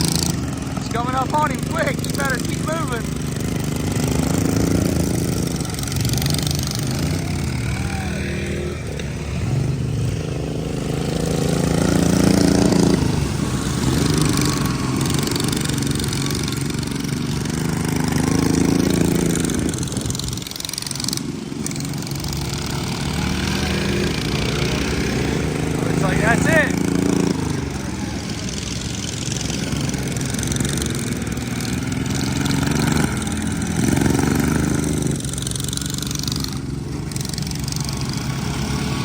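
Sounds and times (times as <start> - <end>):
racing lawn mower engines: 0.0 - 39.0.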